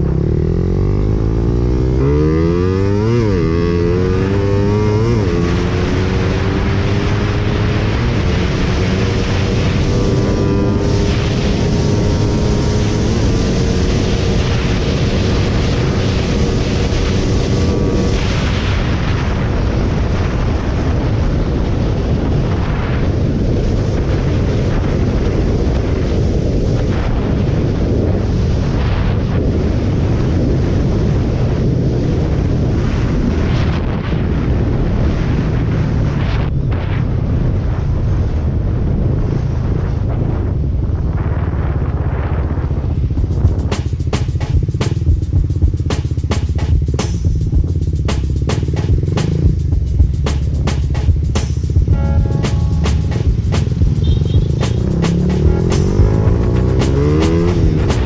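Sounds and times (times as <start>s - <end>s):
wind buffeting microphone: 0.0s - 48.0s
motorcycle engine and road rumble: 0.0s - 58.0s.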